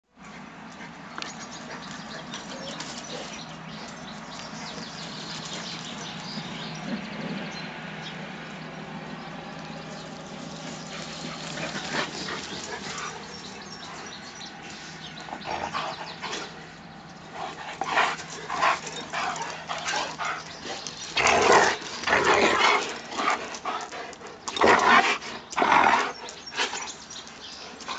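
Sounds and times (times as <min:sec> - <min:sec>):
dogs barking and yipping: 0:00.8 - 0:07.1, 0:10.2 - 0:27.9.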